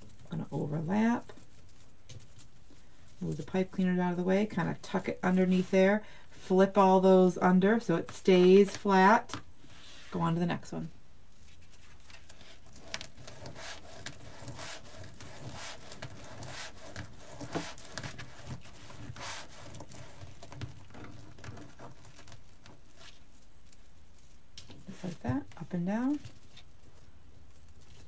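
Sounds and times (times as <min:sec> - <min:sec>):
mesh rustling and crinkling: 0:00.0 - 0:06.0, 0:11.2 - 0:28.0.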